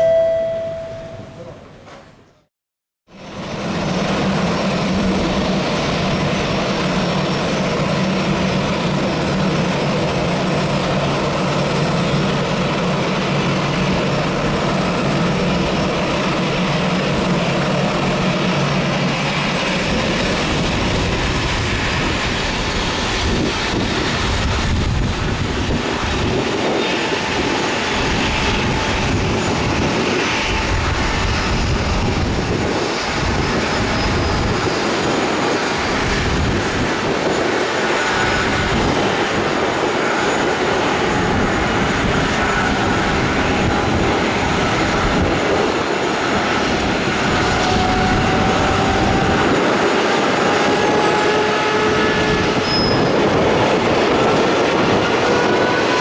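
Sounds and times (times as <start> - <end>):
jet engine noise: 3.1 - 56.0.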